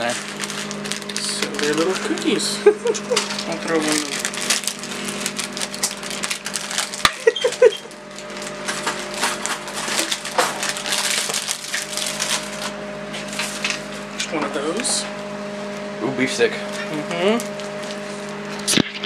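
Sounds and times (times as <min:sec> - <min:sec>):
foil wrapper rustling and crackling: 0:00.0 - 0:15.0, 0:16.7 - 0:19.0.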